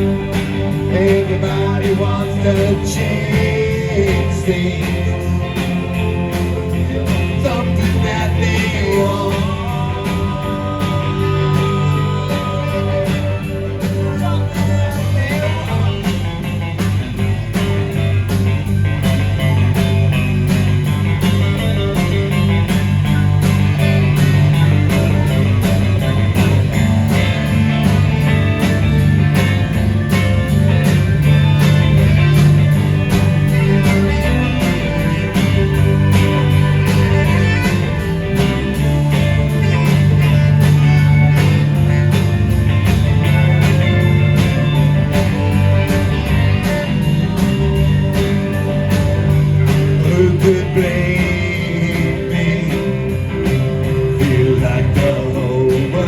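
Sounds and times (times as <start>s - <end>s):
bass guitar: 0.0s - 56.0s
lead guitar: 0.0s - 56.0s
steady drum beat: 0.0s - 56.0s.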